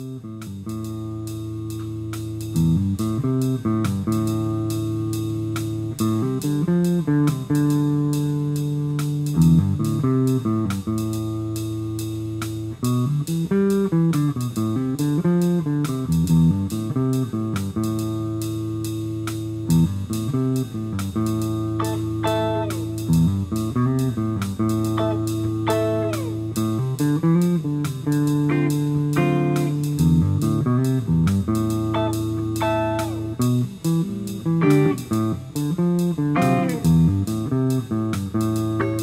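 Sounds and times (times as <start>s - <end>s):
instrumental guitar music: 0.0s - 39.0s.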